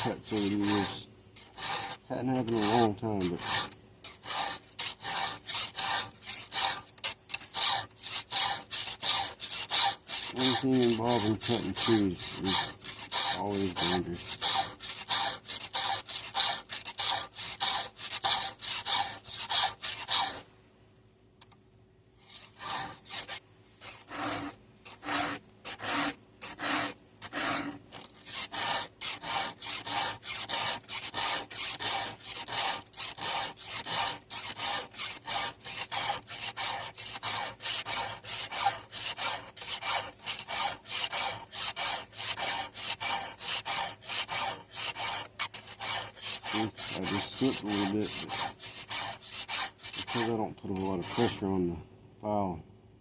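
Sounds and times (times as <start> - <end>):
file rasping on chainsaw chain: 0.0 - 20.4, 22.2 - 51.6.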